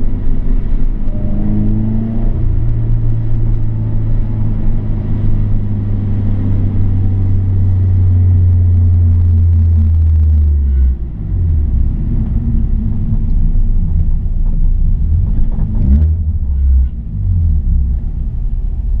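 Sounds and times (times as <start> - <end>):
car engine running: 0.0 - 19.0
road and cabin rumble: 0.0 - 19.0.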